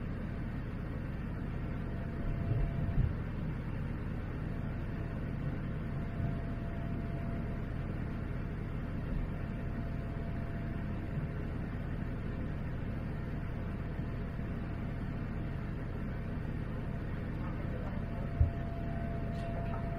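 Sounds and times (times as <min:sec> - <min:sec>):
airplane engines and airflow: 0:00.0 - 0:19.9
faint steady tone: 0:00.1 - 0:19.9.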